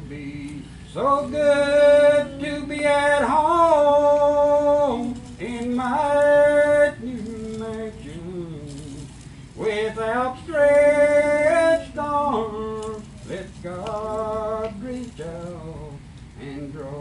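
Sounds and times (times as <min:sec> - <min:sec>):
choir singing a gospel hymn: 0:00.0 - 0:08.4, 0:09.6 - 0:17.0.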